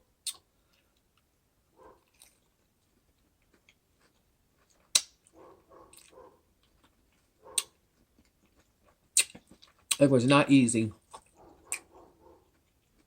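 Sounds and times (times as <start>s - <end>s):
person chewing food: 0.1s - 10.1s, 10.9s - 13.0s.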